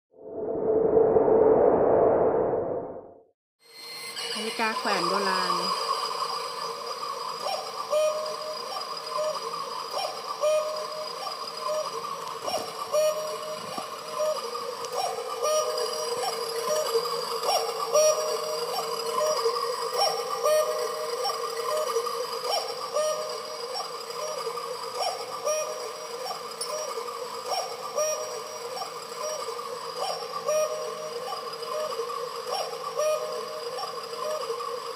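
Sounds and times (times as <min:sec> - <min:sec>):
electronic cuckoo clock call: 0:04.1 - 0:34.9.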